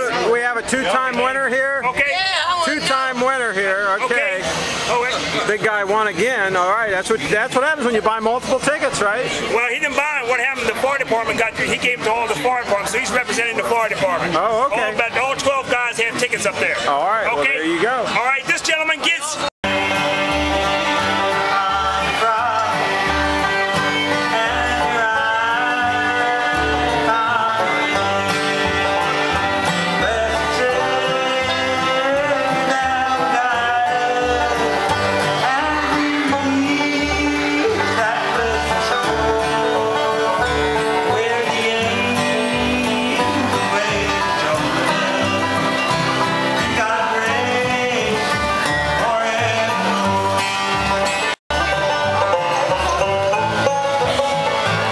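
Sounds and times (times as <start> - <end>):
bluegrass band playing: 0.0 - 54.9.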